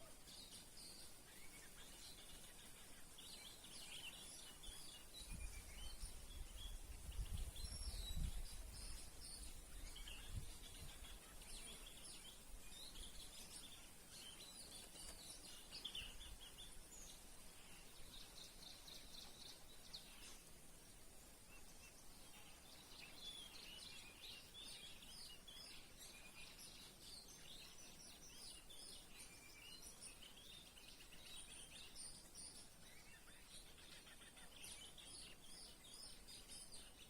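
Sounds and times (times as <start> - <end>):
birds chirping: 0.0 - 37.0
steady high hiss: 0.0 - 37.0.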